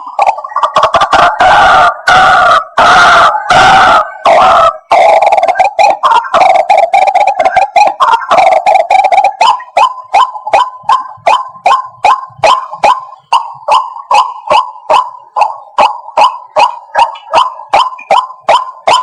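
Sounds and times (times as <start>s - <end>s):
waterhen calling harsh notes: 0.3s - 19.0s.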